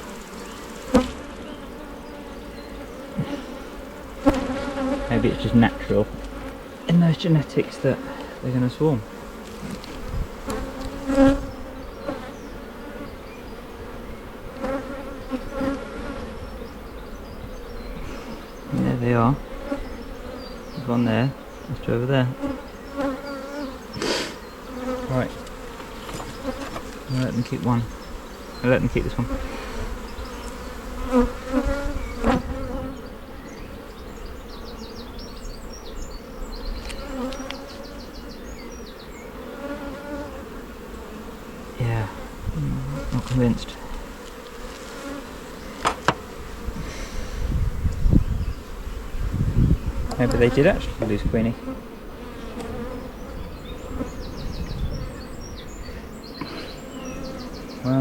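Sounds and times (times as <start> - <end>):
honey bees buzzing: 0.0 - 58.0.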